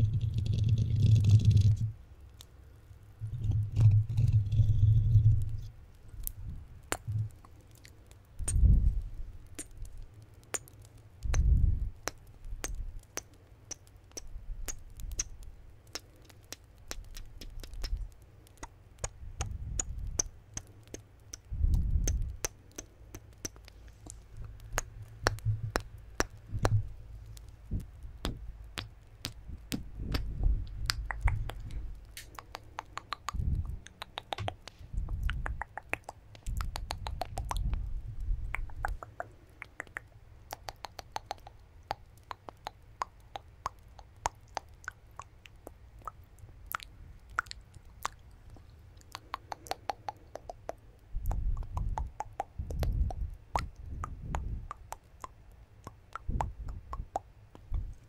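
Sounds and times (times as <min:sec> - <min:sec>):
wet mouth clicks and pops: 0:03.6 - 0:58.0.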